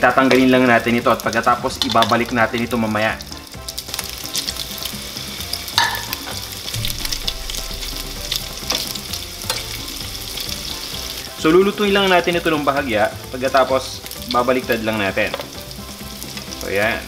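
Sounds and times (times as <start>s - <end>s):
meatballs sizzling in oil: 0.0s - 17.0s.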